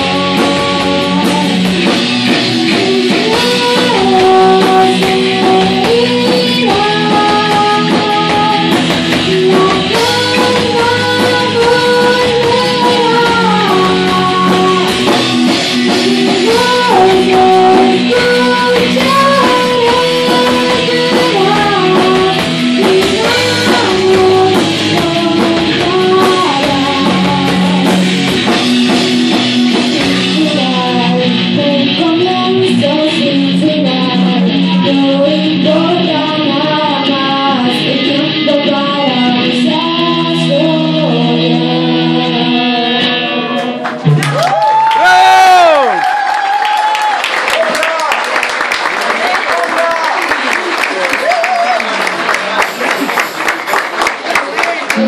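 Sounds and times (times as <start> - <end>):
electric guitar lead line: 0.0 - 47.3, 51.2 - 55.0
rock band playing: 0.0 - 55.0.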